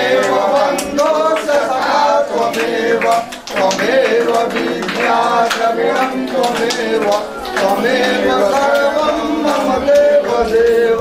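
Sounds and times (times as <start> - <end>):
hand claps: 0.0 - 11.0
voices singing a hymn: 0.0 - 11.0.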